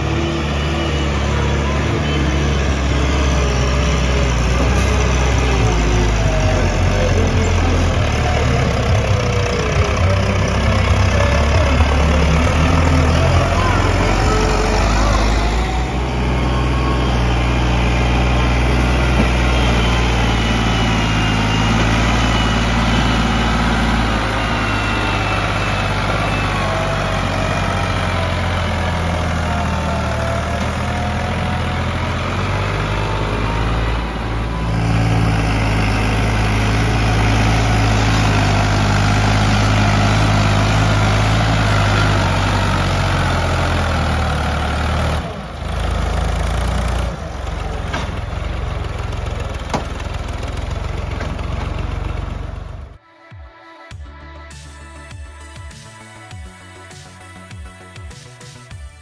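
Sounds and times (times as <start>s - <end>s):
diesel tractor engine under load: 0.0s - 53.0s.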